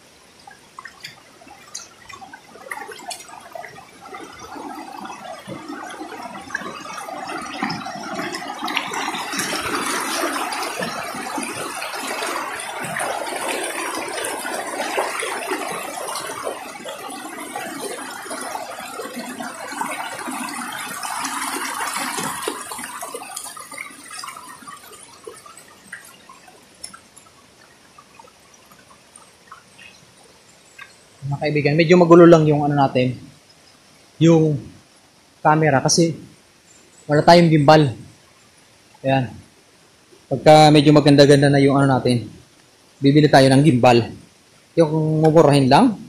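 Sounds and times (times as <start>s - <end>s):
stream water over rocks: 0.0s - 46.0s.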